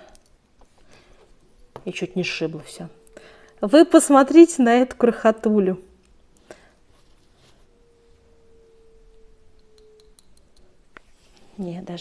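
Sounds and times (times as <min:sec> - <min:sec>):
quiet handling of jewelry: 0:00.0 - 0:04.2, 0:05.9 - 0:12.0
faint steady ringing tone: 0:00.0 - 0:12.0.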